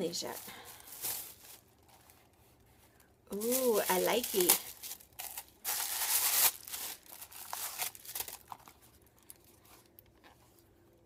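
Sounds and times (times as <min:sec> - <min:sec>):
packaging crinkling and rustling: 0:00.2 - 0:10.7.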